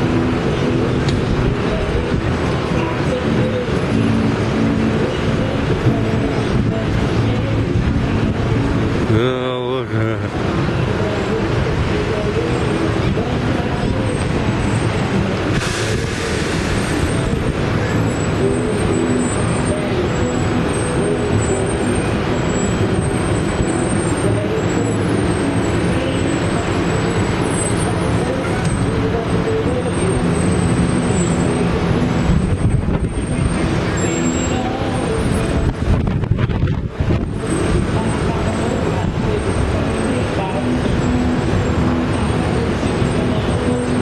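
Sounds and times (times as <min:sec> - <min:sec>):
wind rumble on microphone: 0:00.0 - 0:09.1, 0:10.3 - 0:44.0
distant voices: 0:00.0 - 0:44.0.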